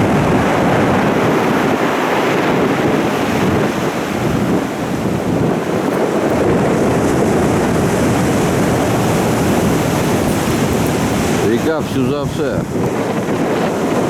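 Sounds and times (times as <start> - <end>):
stormy sea surf: 0.0 - 14.0
wind buffeting microphone: 0.0 - 14.0.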